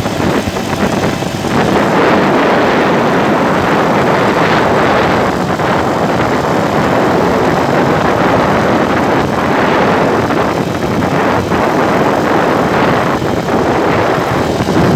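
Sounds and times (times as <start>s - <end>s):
road and wind noise: 0.0s - 14.9s.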